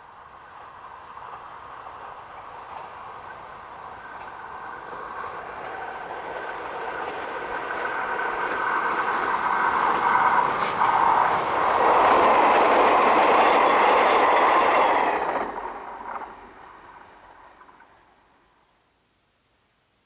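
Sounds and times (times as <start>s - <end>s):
electric train passing: 0.0s - 18.8s.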